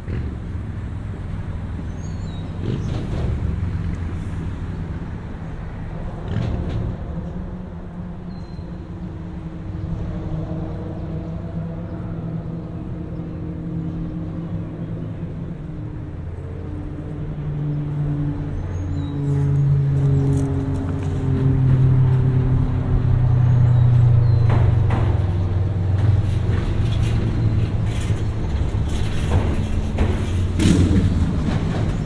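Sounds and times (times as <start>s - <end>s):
passing vehicle engines humming: 0.0s - 32.0s
traffic rumble on steel bridge: 0.0s - 32.0s.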